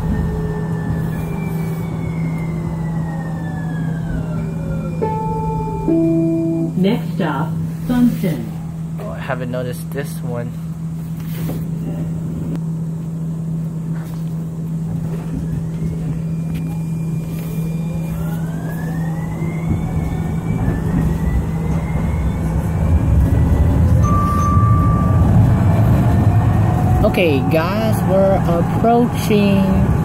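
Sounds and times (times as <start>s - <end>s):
steady low hum: 0.0s - 30.0s
traction drive whine: 0.0s - 30.0s
wheel-on-rail rumble: 0.0s - 30.0s.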